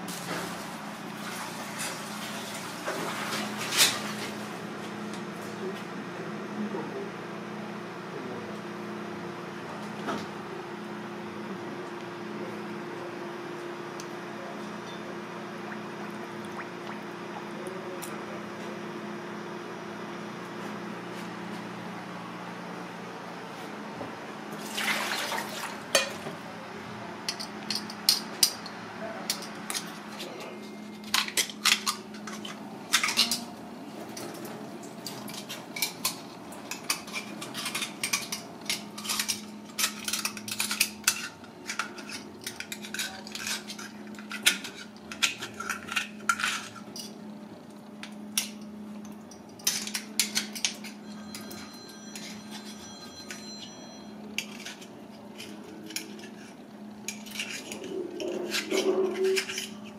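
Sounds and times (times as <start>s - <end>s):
steady low hum: 2.5s - 59.9s.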